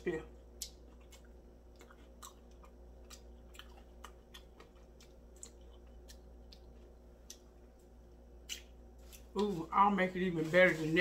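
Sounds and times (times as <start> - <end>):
person chewing crunchy food: 0.3 - 9.4.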